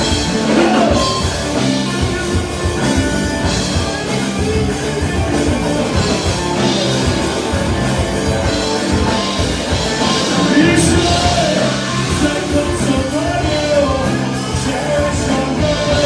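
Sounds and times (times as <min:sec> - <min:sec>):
drums: 0:00.0 - 0:16.0
electric guitar: 0:00.0 - 0:16.0.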